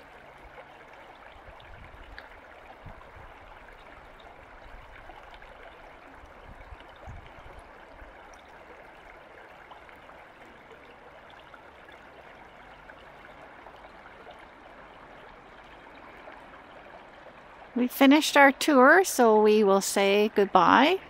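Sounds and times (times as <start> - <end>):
creek babbling: 0.0 - 21.0.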